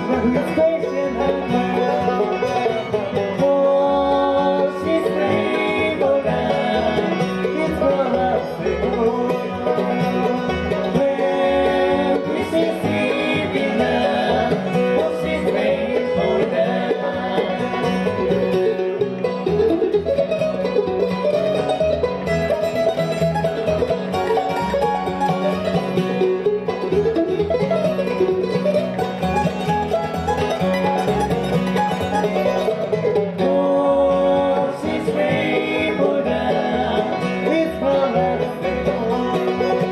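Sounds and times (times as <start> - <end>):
acoustic guitar: 0.0 - 39.9
banjo: 0.0 - 39.9
fiddle: 0.0 - 39.9
upright bass: 0.0 - 39.9.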